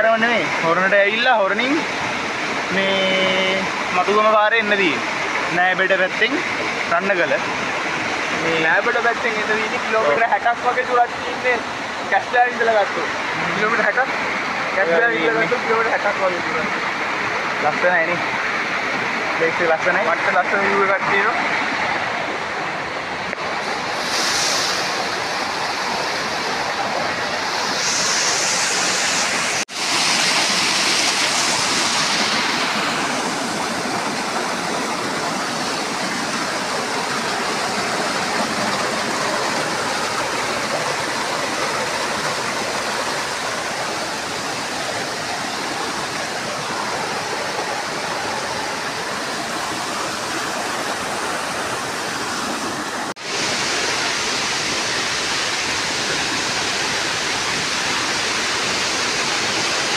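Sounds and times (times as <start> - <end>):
water rushing over boulders: 0.0 - 59.9.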